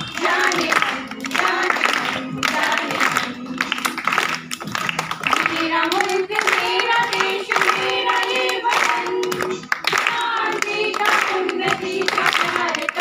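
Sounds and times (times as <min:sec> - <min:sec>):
women singing into a microphone: 0:00.0 - 0:03.9, 0:05.3 - 0:13.0.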